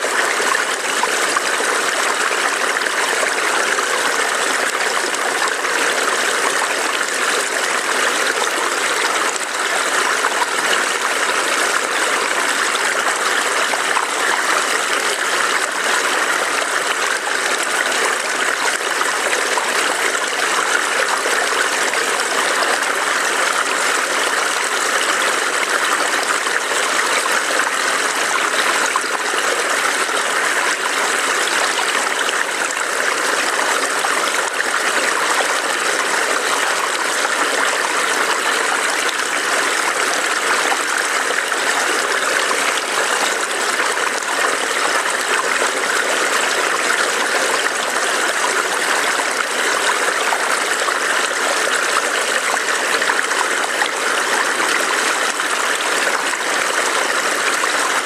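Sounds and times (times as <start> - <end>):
stream burbling over stones: 0.0 - 58.0.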